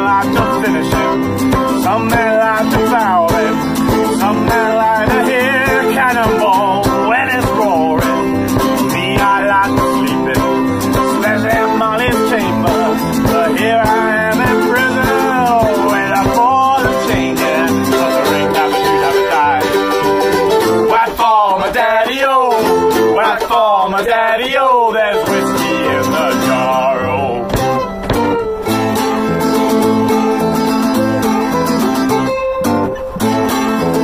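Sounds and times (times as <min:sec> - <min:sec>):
folk band playing guitars: 0:00.0 - 0:34.0.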